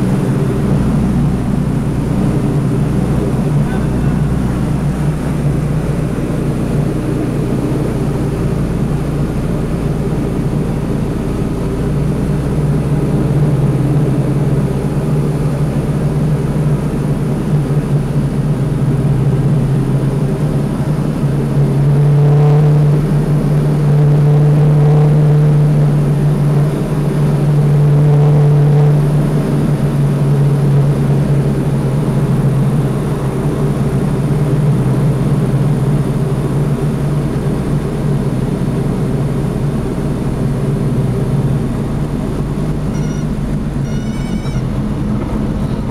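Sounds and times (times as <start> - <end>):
aircraft engine and propeller droning: 0.0 - 45.9.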